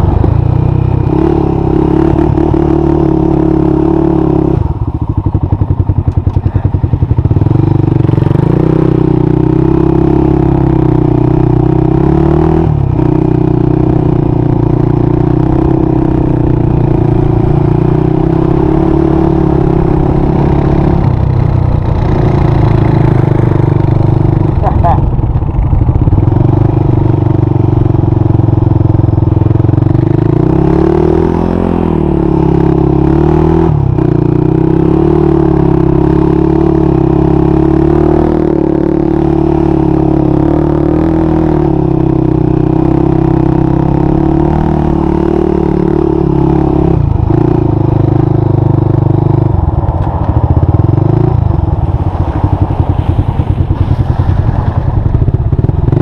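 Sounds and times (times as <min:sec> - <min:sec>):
quad engine revving: 0:00.0 - 0:04.7, 0:07.4 - 0:49.5.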